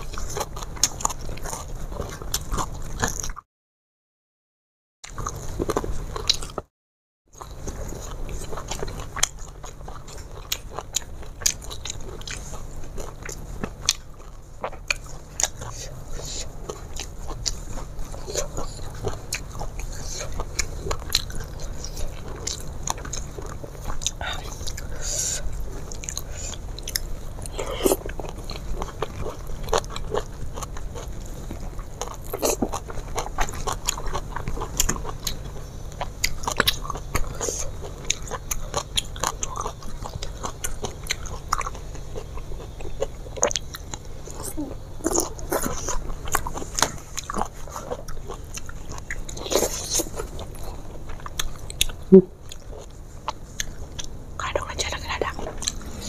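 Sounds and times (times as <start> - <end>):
person chewing crunchy food: 0.0 - 3.4, 5.1 - 6.7, 7.3 - 56.0.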